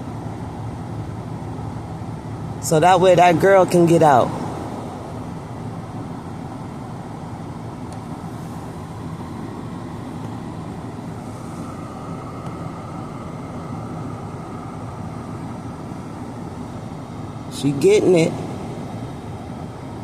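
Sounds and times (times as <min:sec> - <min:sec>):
high engine whine: 0:00.0 - 0:20.0
truck engine rumbling: 0:00.0 - 0:20.0.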